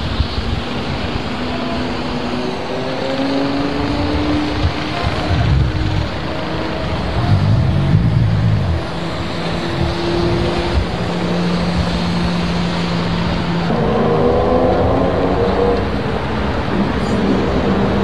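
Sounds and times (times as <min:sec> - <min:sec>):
noisy hiss: 0:00.0 - 0:18.0
racing car engines droning: 0:00.0 - 0:18.0.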